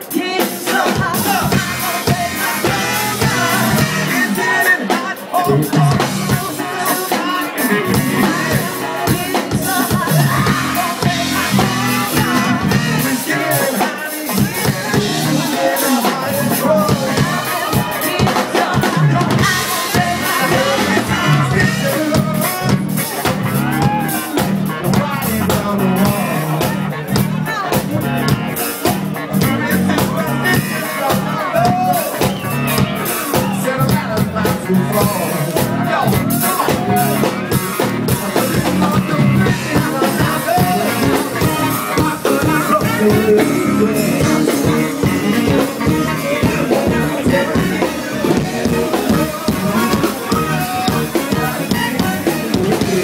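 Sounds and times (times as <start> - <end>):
bass: 0.0 - 53.0
drum kit beat: 0.0 - 53.0
electric guitar: 0.0 - 53.0
man singing: 0.0 - 53.0.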